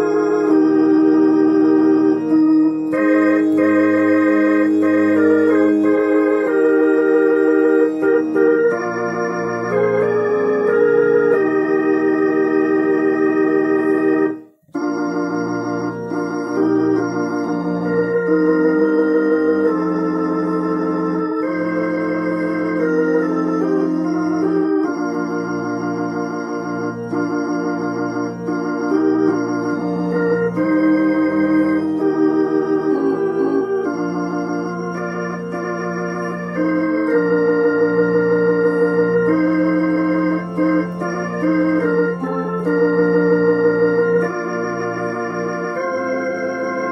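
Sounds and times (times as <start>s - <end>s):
hymn on organ-voiced piano: 0.0s - 46.9s.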